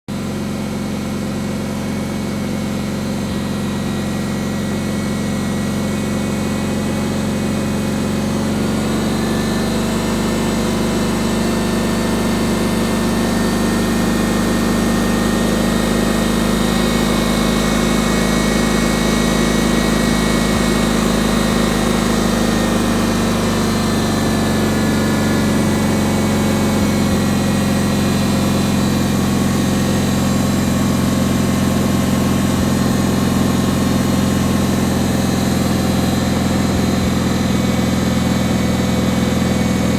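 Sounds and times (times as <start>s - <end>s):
garden tractor engine running: 0.1s - 39.9s.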